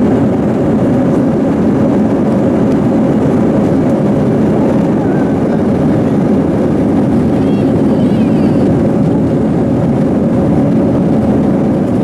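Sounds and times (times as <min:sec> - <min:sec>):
jet engine drone in cabin: 0:00.0 - 0:12.0.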